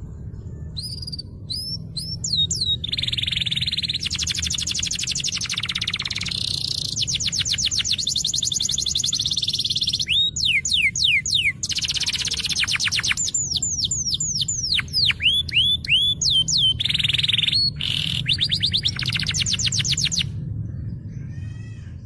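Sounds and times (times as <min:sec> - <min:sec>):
steady low hum: 0:00.0 - 0:22.0
canary singing: 0:00.4 - 0:20.3.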